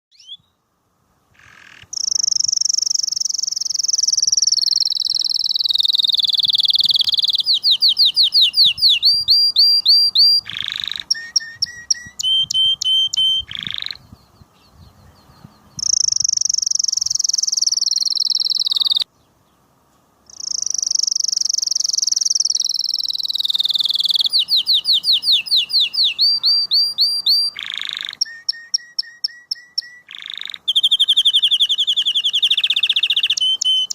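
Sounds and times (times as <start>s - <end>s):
canary singing trills: 0.1s - 0.6s, 1.4s - 19.6s, 20.3s - 33.9s.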